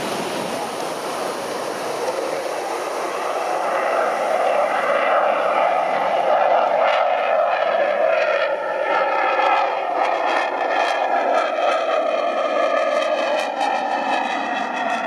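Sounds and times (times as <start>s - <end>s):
aircraft engine noise: 0.0s - 15.0s.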